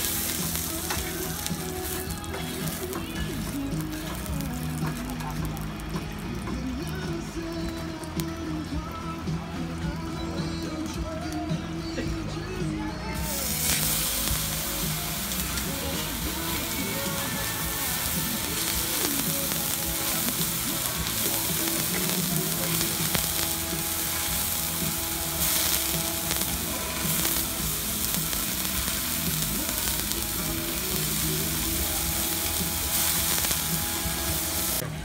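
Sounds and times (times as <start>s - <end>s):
meat sizzling on a griddle: 0.0s - 11.5s, 13.1s - 34.9s
background music: 0.0s - 35.0s.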